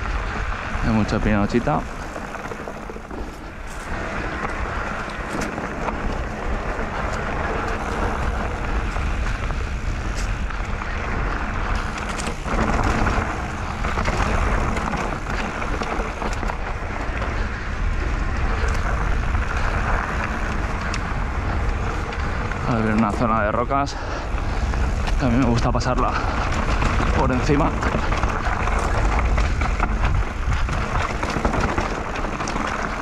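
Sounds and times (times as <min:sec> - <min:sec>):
bike rattles and knocks: 0:00.0 - 0:33.0
bike tyre noise: 0:00.0 - 0:33.0
wind rush on microphone: 0:00.0 - 0:33.0.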